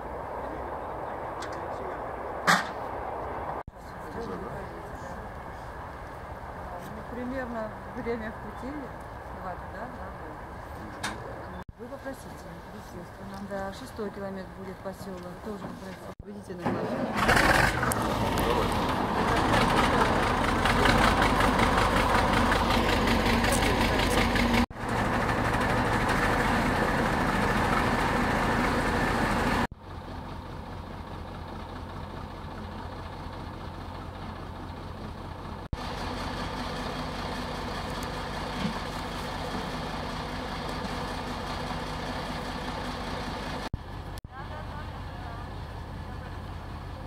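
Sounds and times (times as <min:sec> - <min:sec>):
diesel locomotive engine idling: 0:03.7 - 0:16.6, 0:17.2 - 0:47.0.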